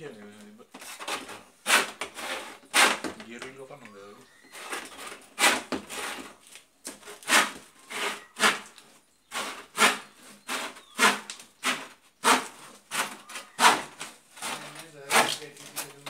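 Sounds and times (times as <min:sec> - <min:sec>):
hand saw rasping strokes: 0:00.8 - 0:03.2, 0:04.5 - 0:16.0.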